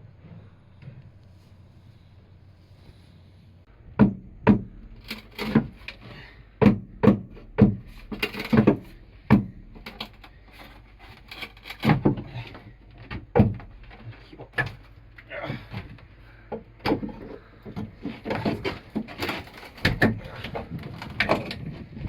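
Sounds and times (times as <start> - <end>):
sharp knocks and thumps: 3.8 - 21.7.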